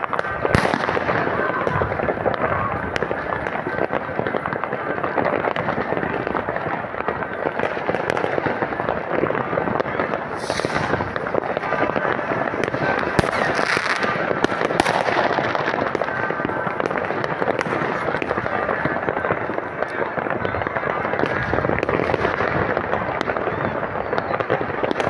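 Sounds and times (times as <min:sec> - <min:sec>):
fireworks crackling and banging: 0:00.0 - 0:25.0
hissing firework bursts: 0:00.0 - 0:25.0.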